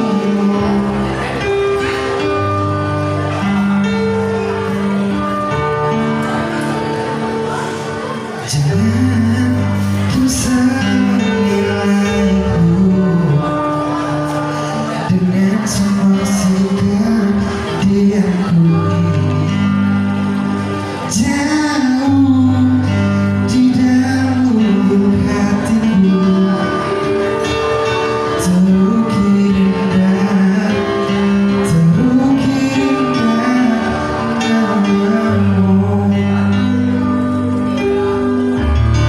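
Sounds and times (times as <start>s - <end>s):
man singing slow song: 0.0s - 3.7s, 7.5s - 39.0s
instrumental accompaniment: 0.0s - 39.0s.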